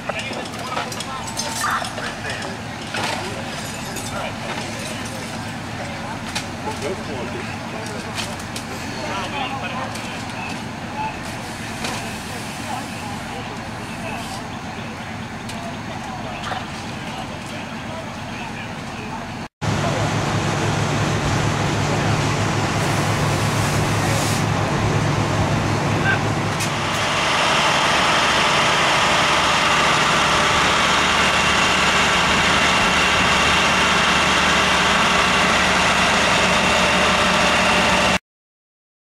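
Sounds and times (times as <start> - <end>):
diesel engines droning: 0.0 - 38.2.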